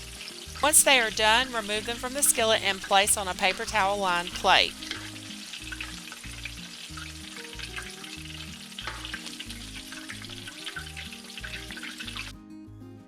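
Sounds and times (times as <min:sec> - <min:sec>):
food sizzling in hot oil: 0:00.0 - 0:12.4.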